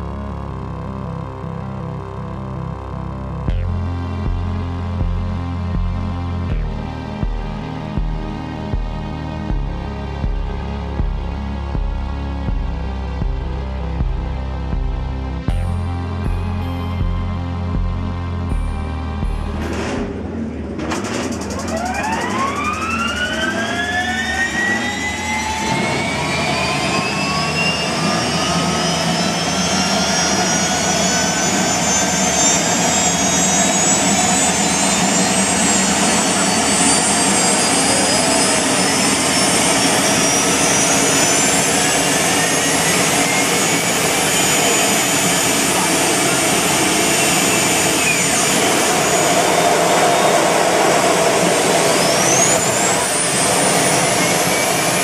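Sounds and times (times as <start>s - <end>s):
steady engine roar: 0.0s - 55.0s
turbine engine whine: 0.0s - 55.0s.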